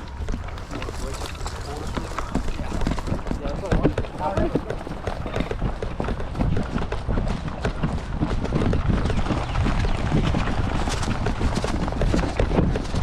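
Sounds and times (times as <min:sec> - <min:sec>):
running footsteps: 0:00.0 - 0:13.0.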